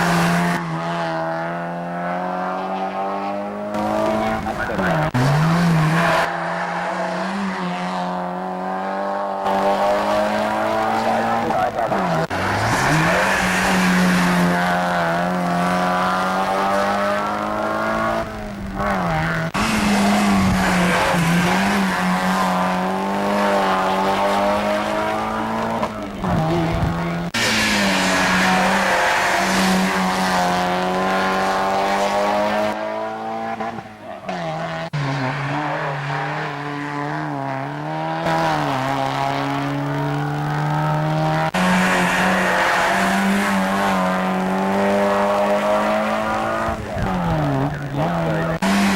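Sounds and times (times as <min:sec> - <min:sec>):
race car engines at high revs: 0:00.0 - 0:48.9.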